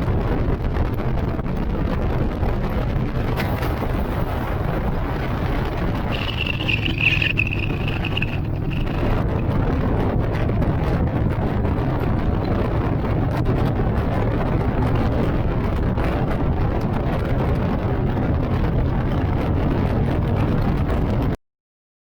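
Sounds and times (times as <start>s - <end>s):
wind rush: 0.0s - 21.4s
motorcycle engine running: 2.4s - 21.0s.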